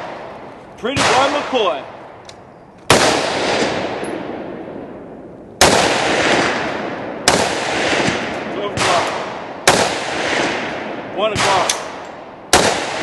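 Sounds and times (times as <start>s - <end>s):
rifle shots with echo: 0.0s - 2.2s, 2.9s - 13.0s.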